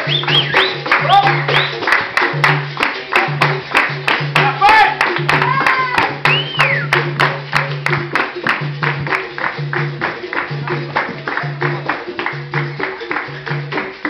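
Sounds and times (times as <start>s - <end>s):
berimbau two-note rhythm: 0.0s - 14.0s
hand clapping: 0.0s - 14.0s
pandeiro beat: 0.0s - 14.0s.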